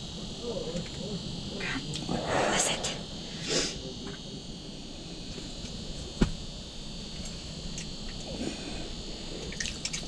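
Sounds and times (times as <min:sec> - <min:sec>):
propane heater hissing: 0:00.0 - 0:09.6.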